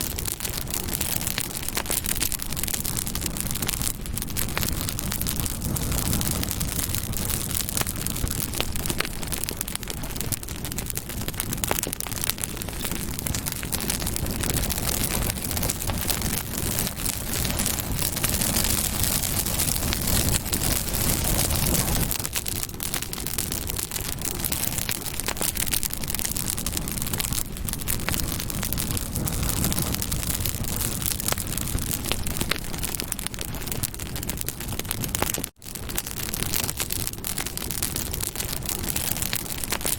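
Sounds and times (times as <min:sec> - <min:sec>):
burning wood crackling: 0:00.0 - 0:39.9
hiss of flames: 0:00.0 - 0:39.9.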